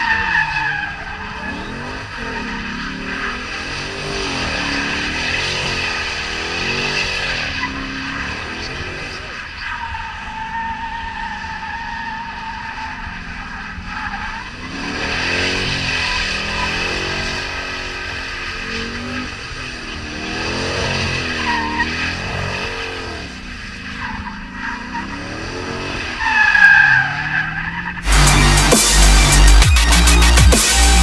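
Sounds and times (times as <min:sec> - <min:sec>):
car engine revving: 0:00.0 - 0:31.0
tires squealing: 0:00.0 - 0:31.0.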